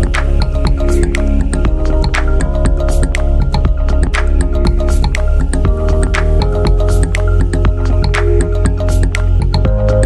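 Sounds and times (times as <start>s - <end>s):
synth music with deep bass: 0.0s - 10.0s.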